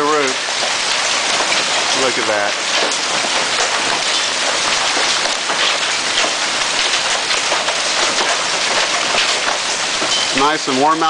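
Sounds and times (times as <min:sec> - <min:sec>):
hail pelting ground and roof: 0:00.0 - 0:11.0.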